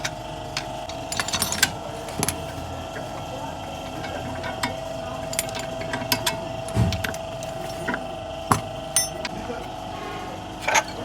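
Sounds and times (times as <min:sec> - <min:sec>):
hand tools clinking on car parts: 0:00.0 - 0:09.7, 0:10.6 - 0:11.0
steady hum: 0:00.0 - 0:11.0.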